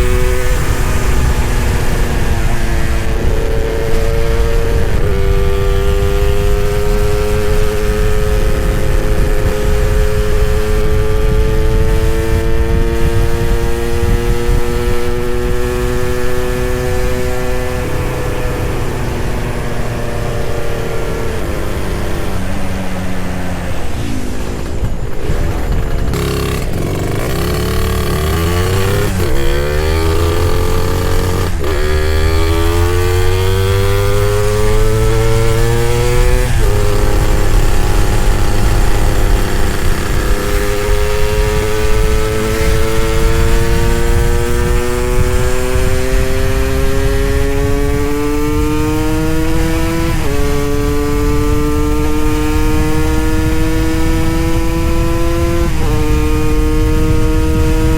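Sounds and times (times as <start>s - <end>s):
motorcycle engine revving: 0.0s - 57.9s
wind and road noise: 0.0s - 57.9s.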